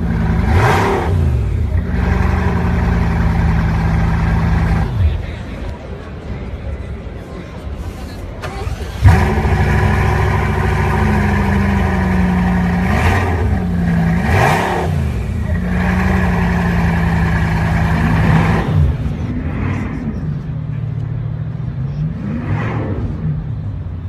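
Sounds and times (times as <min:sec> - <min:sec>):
car engine idling and revving: 0:00.0 - 0:05.6, 0:07.9 - 0:24.0.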